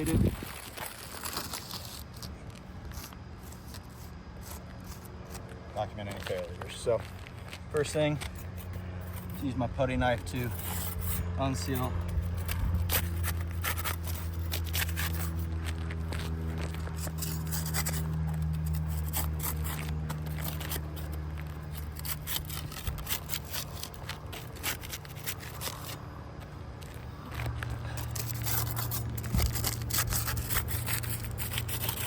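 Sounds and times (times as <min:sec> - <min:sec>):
putty knife scraping shingles: 0:00.0 - 0:32.0.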